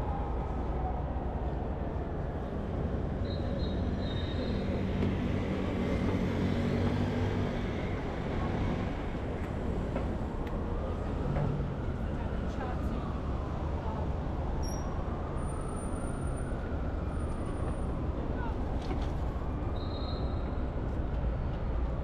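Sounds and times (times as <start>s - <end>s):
rumble of street traffic: 0.0s - 22.0s.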